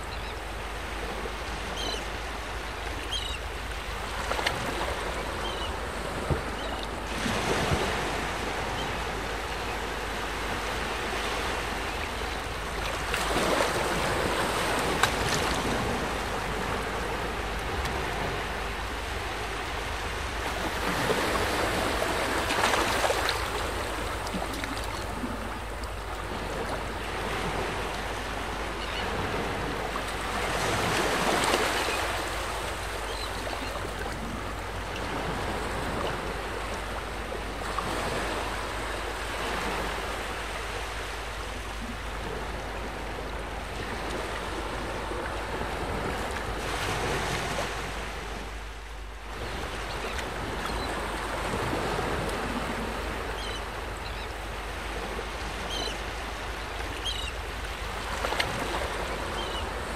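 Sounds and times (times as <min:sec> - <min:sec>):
water gently lapping: 0:00.0 - 0:59.9
wind: 0:00.0 - 0:59.9.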